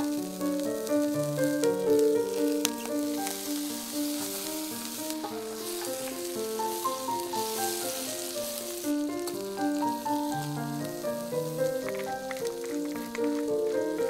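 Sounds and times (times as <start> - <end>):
background music melody: 0.0 - 14.0
mushrooms sizzling in oil: 0.0 - 14.0.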